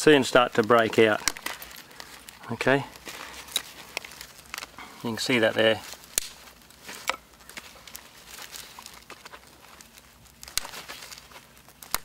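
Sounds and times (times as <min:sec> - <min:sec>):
canvas rustling: 0:00.3 - 0:12.0.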